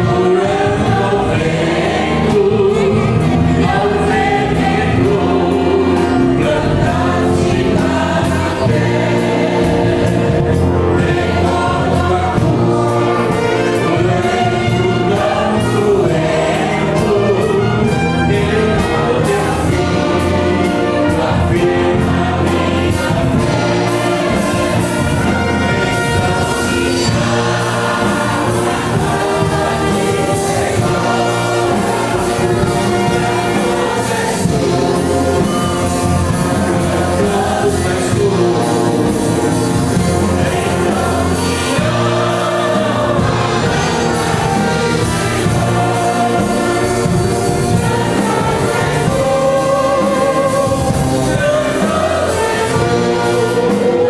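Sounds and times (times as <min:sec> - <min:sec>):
brass playing a hymn: 0:00.0 - 0:54.0
choir singing: 0:00.0 - 0:54.0.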